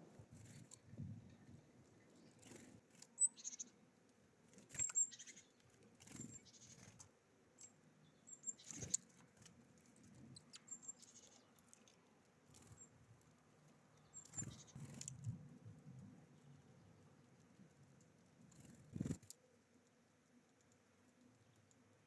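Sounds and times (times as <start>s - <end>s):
rustling of seed and wings: 0.0s - 7.8s, 8.5s - 22.0s
songbirds chirping: 0.0s - 22.0s.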